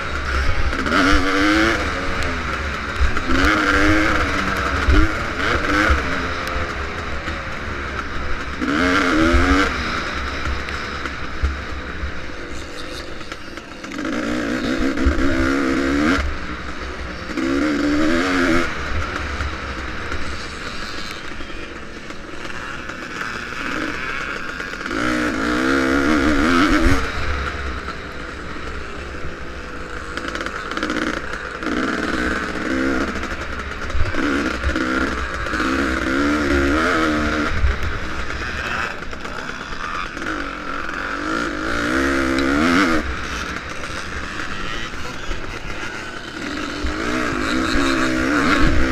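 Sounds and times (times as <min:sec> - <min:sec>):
motocross bike engine revving: 0:00.0 - 0:48.9.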